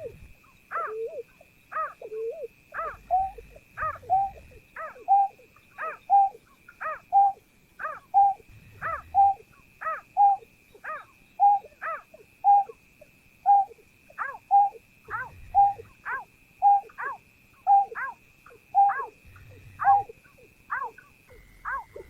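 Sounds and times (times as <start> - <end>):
bird calling: 0.0 - 22.0
faint steady high tone: 0.0 - 22.0.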